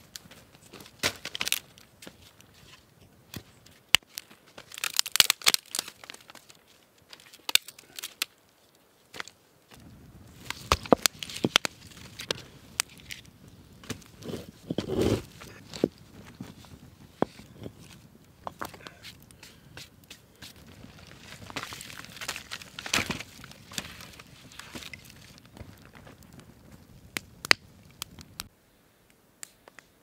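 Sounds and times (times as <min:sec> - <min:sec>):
wood snapping and cracking: 0:00.1 - 0:02.4, 0:03.3 - 0:08.4, 0:09.1 - 0:28.5.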